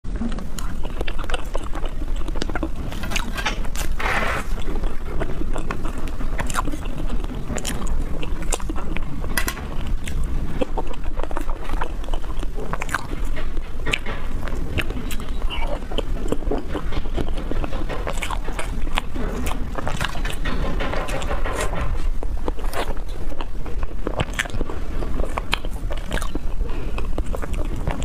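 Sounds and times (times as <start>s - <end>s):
wet chewing and smacking: 0.1s - 28.0s.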